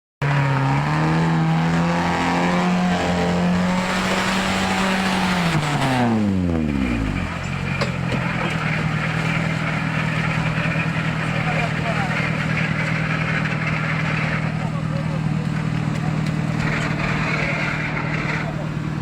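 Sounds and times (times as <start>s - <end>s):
car engine revving high: 0.2s - 19.0s.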